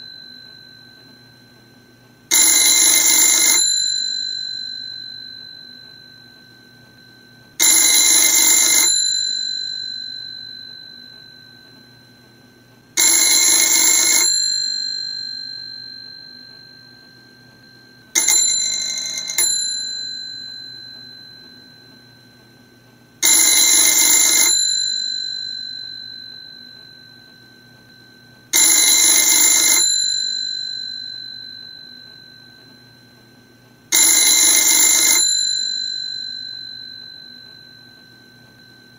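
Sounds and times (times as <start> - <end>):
telephone bell ringing: 0.0 - 38.9.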